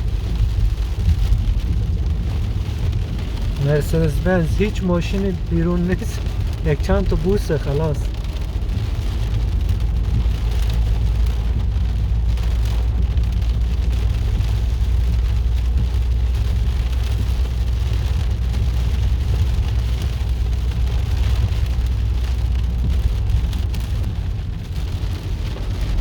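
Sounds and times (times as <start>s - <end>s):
heavy rain pouring: 0.0s - 26.0s
low rumble: 0.0s - 26.0s.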